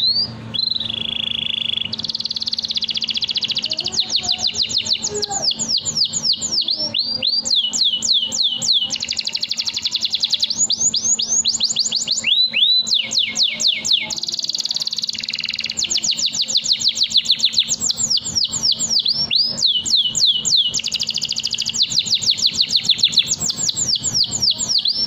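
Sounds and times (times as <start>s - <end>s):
canary singing: 0.0s - 25.0s.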